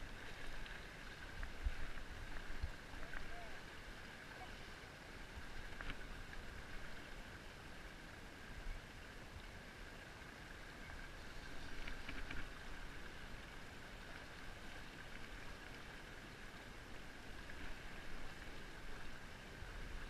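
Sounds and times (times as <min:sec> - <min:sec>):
river current rushing and lapping: 0:00.0 - 0:20.0.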